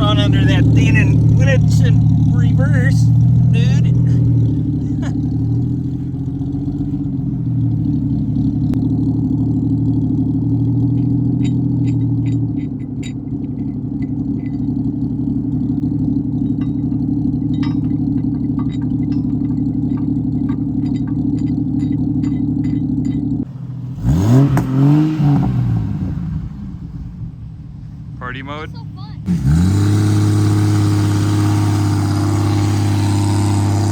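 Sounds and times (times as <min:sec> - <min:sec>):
vehicle engine running under load: 0:00.0 - 0:33.9.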